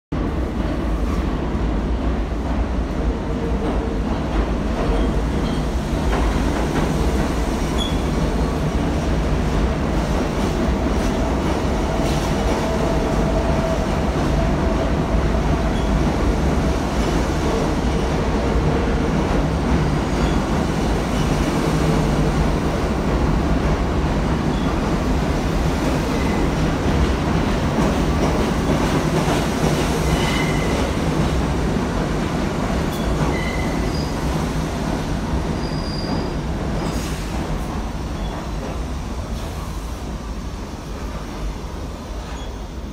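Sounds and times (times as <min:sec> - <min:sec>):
subway train wheels rumbling: 0:00.1 - 0:42.9.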